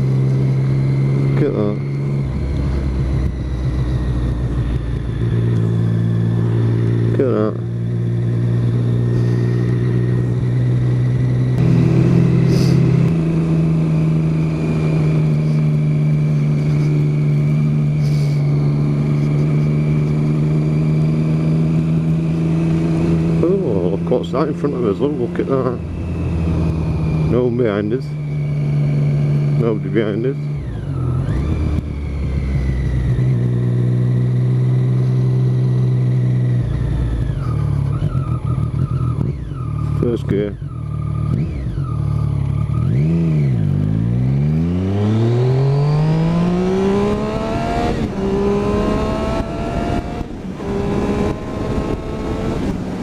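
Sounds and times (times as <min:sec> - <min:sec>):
motorcycle engine cruising: 0:00.0 - 0:53.0.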